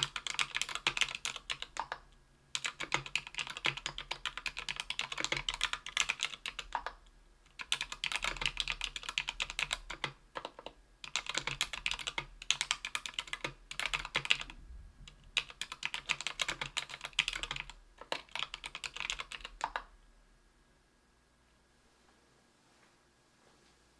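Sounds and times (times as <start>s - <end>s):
fast typing on a keyboard: 0.0s - 19.9s.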